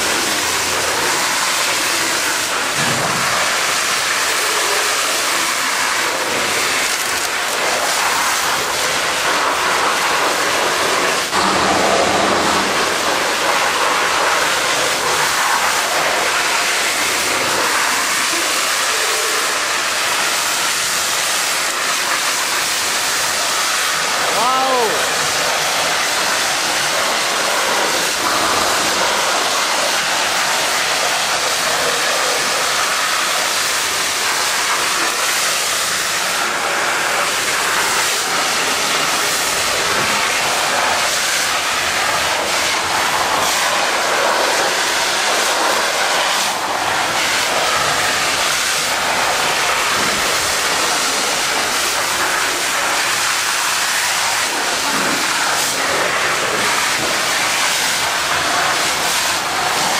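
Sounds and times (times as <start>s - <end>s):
high-pressure water spraying on metal: 0.0s - 59.9s.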